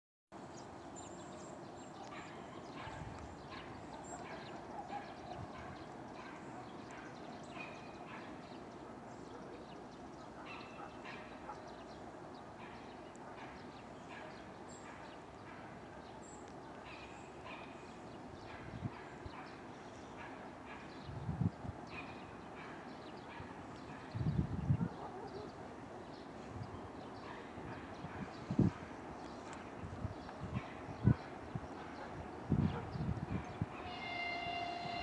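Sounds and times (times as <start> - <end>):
birds chirping: 0.5 - 35.0.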